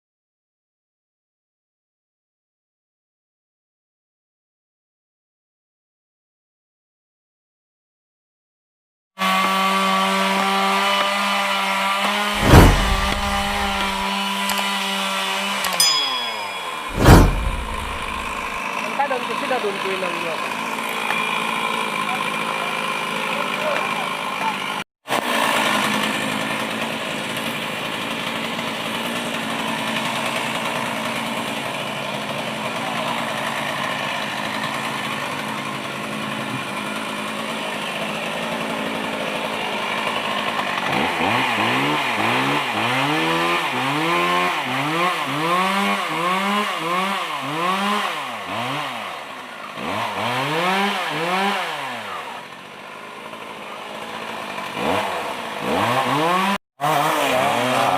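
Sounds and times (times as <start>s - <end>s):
chainsaw cutting wood: 9.2s - 57.9s.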